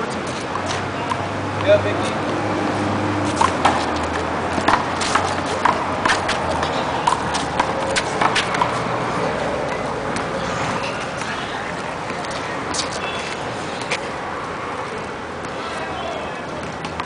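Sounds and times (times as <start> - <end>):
sneakers pattering on asphalt: 0.0 - 15.8.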